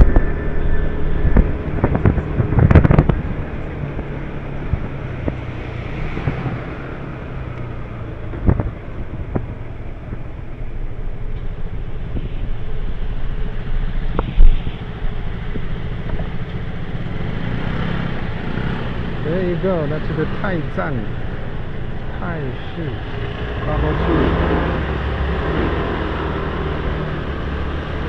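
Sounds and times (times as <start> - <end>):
motor scooter engine running: 0.0 - 28.0
wind noise on microphone: 0.0 - 28.0.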